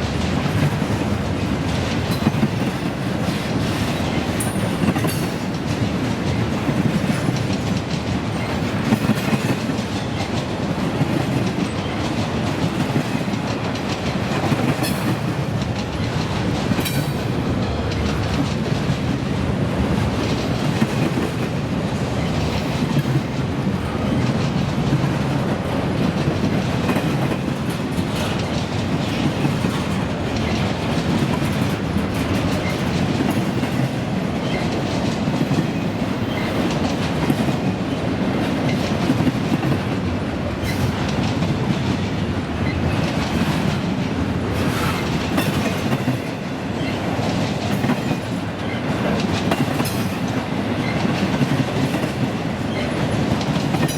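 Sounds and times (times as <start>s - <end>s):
freight train cars rolling: 0.0s - 53.9s
wheels clacking over rails: 0.0s - 53.9s.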